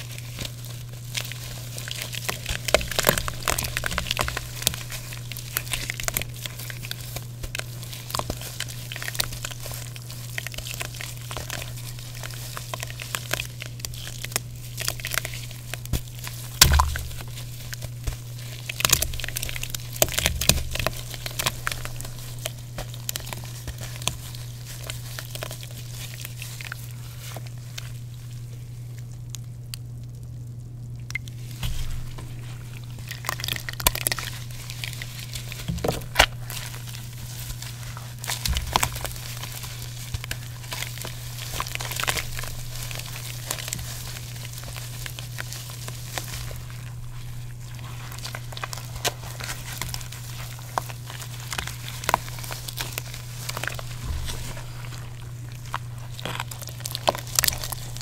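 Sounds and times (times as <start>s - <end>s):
wet chalk crunching by hand: 0.0s - 29.9s, 31.1s - 58.0s.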